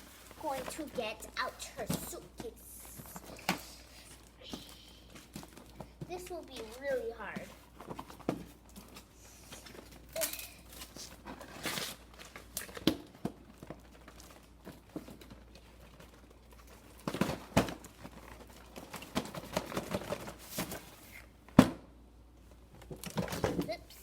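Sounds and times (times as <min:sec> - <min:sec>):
plastic packaging crinkling: 0:00.0 - 0:21.3.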